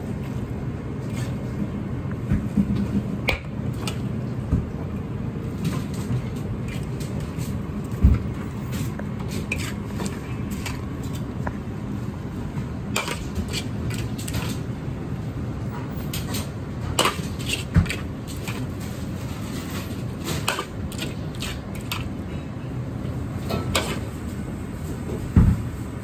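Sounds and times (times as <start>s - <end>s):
low kitchen rumble: 0.0s - 26.0s.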